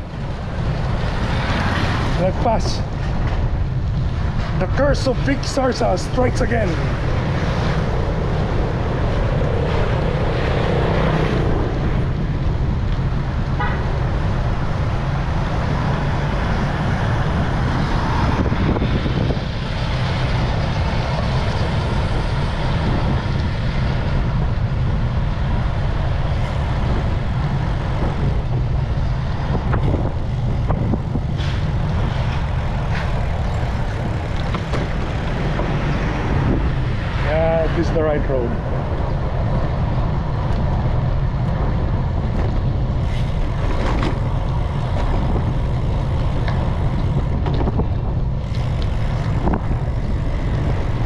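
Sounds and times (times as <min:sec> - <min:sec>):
bicycle road noise: 0:00.0 - 0:51.0
motor traffic: 0:00.0 - 0:51.0
wind on microphone: 0:00.0 - 0:51.0.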